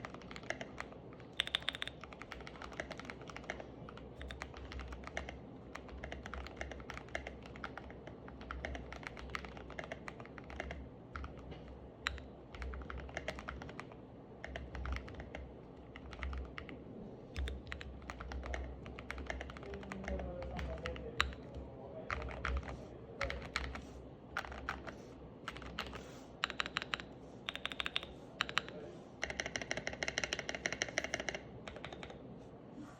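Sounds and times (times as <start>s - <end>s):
mechanical keyboard typing: 0.0s - 32.2s.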